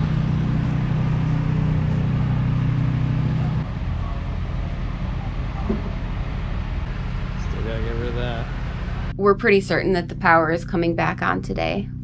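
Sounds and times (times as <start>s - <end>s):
background rumble: 0.0s - 12.0s
engine humming: 0.0s - 12.0s.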